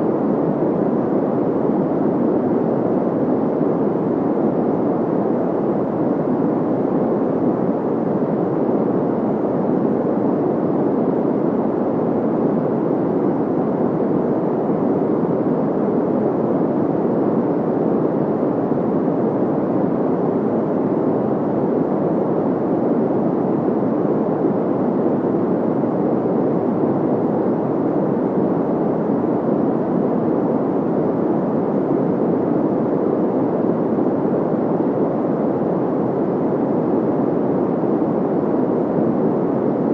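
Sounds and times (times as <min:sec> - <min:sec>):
dull white noise hiss: 0:00.0 - 0:39.9.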